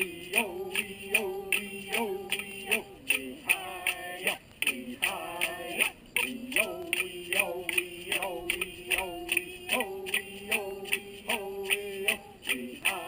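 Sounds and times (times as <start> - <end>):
sharp rhythmic clicks: 0.0 - 13.0.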